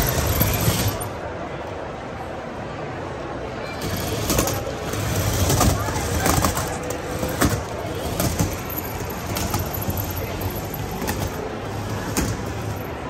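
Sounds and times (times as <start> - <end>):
toy car running: 0.0 - 1.2, 3.7 - 13.0
shopping mall background noise: 0.0 - 13.0.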